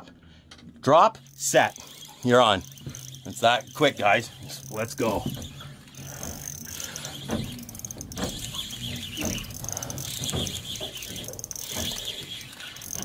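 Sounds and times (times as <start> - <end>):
fishing reel whirring: 1.2 - 13.0.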